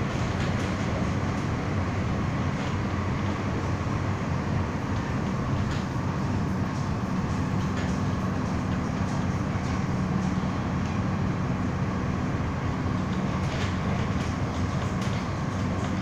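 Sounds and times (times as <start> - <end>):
train rumbling at speed: 0.0 - 16.0.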